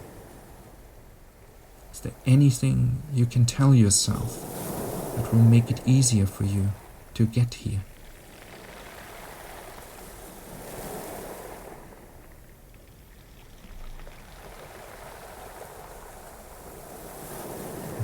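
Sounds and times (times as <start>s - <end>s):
ocean waves washing on shore: 0.0s - 18.0s.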